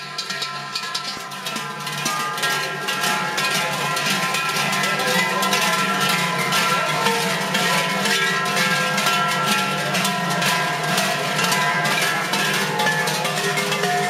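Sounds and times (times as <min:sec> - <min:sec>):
large bells clanging: 0:00.0 - 0:14.0.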